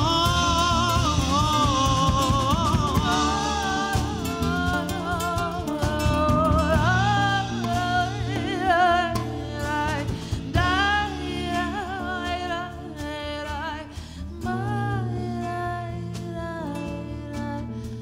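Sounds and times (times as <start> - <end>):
acoustic guitars: 0.0 - 18.0
bass: 0.0 - 18.0
drums: 0.0 - 18.0.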